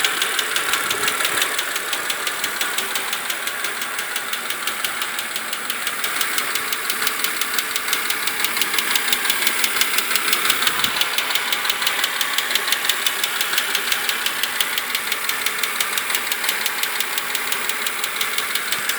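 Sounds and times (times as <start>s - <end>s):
car engine running: 0.0s - 18.9s
fast engine ticking: 0.0s - 18.9s.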